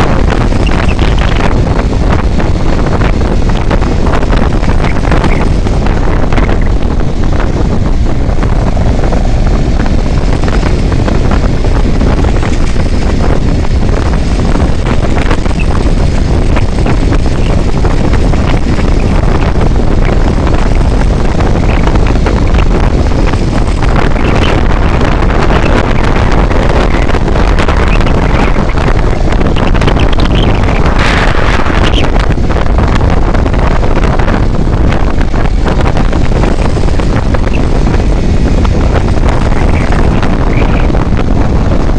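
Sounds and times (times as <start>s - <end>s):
vehicle road noise: 0.0s - 41.9s
wind buffeting microphone: 0.0s - 41.9s.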